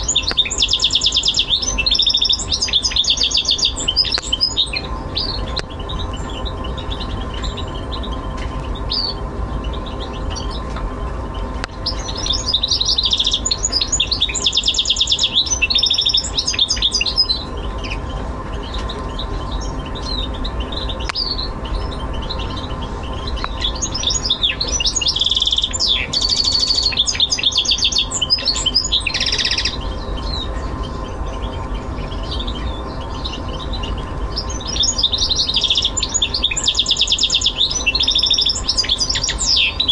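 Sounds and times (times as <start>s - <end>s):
finch singing: 0.0s - 39.9s
steady low hum: 0.0s - 39.9s.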